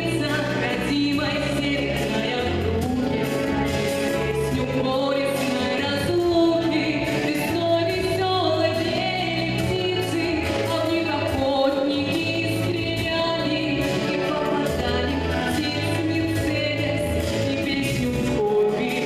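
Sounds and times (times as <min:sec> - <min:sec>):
backing track with bass line: 0:00.0 - 0:19.0.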